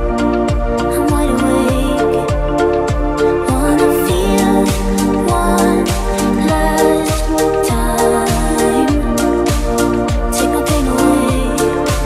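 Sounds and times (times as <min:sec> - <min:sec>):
steady kick drum: 0:00.0 - 0:12.0.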